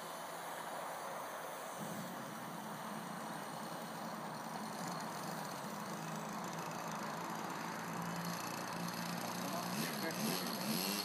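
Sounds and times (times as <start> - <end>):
steady hiss: 0.0 - 11.0
model aircraft motor droning: 1.6 - 11.0.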